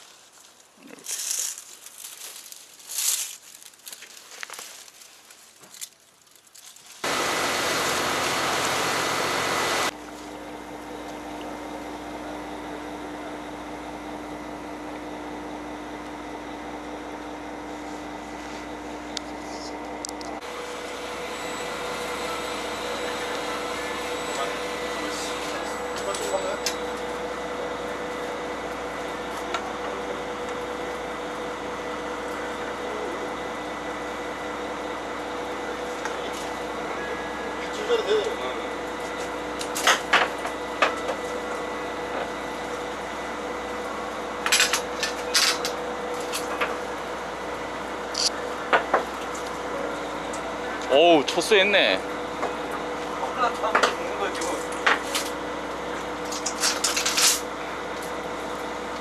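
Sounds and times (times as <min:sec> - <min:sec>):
boat engine humming: 0:07.0 - 0:56.7.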